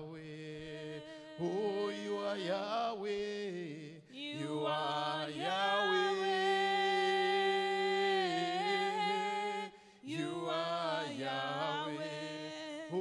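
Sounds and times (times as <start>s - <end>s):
person singing into a microphone: 0.0s - 13.0s.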